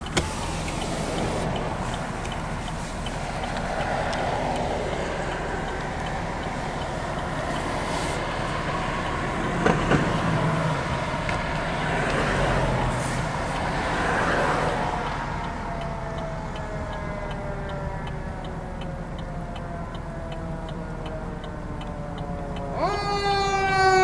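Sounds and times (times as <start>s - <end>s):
fire engine and road noise: 0.0s - 24.0s.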